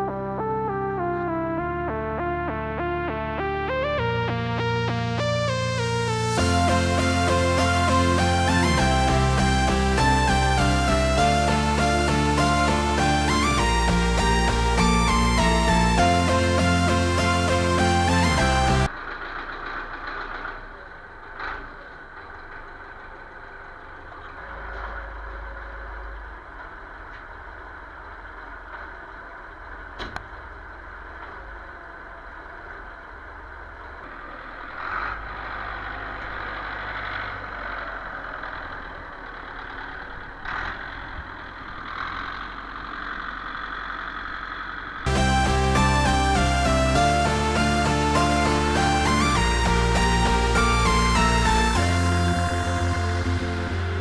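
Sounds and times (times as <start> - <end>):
tractor diesel engine running: 4.3 - 54.0.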